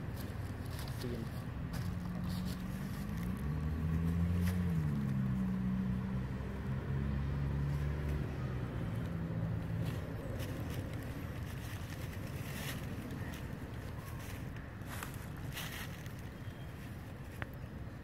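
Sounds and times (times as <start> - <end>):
motor engine humming: 1.4 - 17.9.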